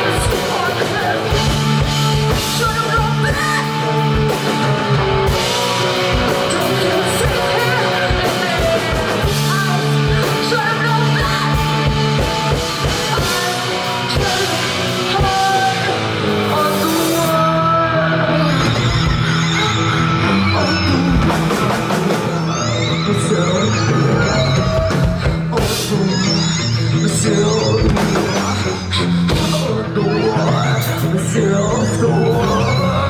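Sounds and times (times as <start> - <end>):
live rock music: 0.0 - 33.0.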